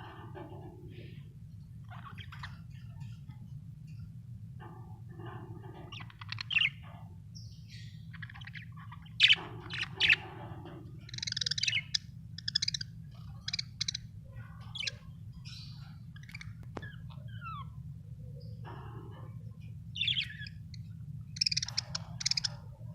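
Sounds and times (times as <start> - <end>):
steady low hum: 0.0 - 22.9
budgerigars chirping and warbling: 1.8 - 3.3, 4.6 - 17.8, 18.4 - 22.9.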